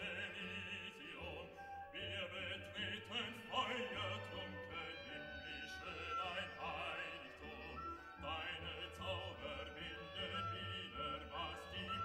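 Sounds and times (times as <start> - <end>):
classical music with singing: 0.0 - 12.0.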